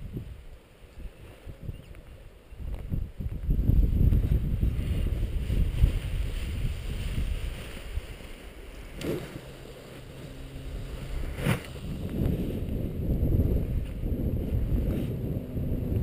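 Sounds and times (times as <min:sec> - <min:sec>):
wind buffeting microphone: 0:00.0 - 0:16.0
paraglider wing flapping: 0:01.1 - 0:16.0.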